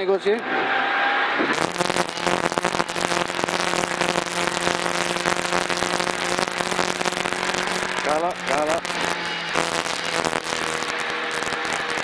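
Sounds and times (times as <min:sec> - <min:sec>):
dense crackling noise: 0:00.0 - 0:00.5, 0:01.4 - 0:12.0.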